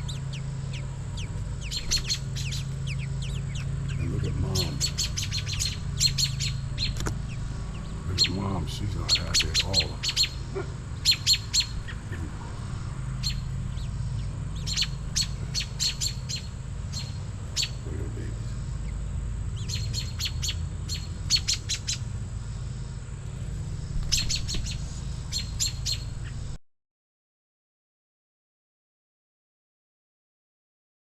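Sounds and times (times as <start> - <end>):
robin alarm calls: 0.0 - 26.6
steady low rumble: 0.0 - 26.6.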